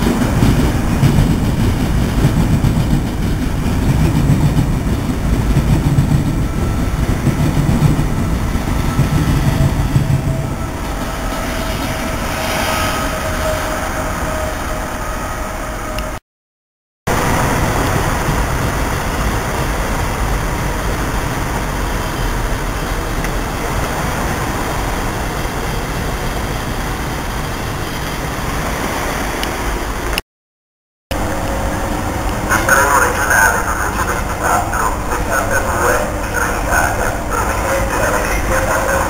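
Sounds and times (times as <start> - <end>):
wheels rumbling on rail: 0.0 - 16.2, 17.1 - 30.2, 31.1 - 39.0.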